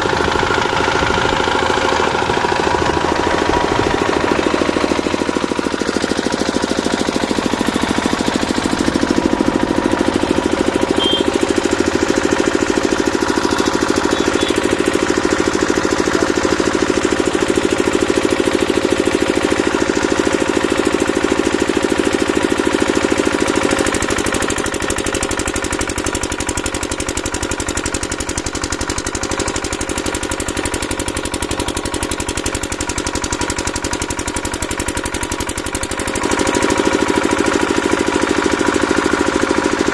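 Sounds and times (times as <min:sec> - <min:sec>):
machine running with fast pulse: 0:00.0 - 0:39.9.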